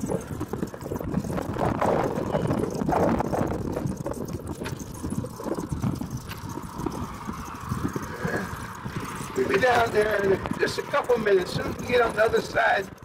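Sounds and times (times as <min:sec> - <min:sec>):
cart body rattling: 0:00.0 - 0:13.0
golf cart on gravel: 0:00.0 - 0:13.0.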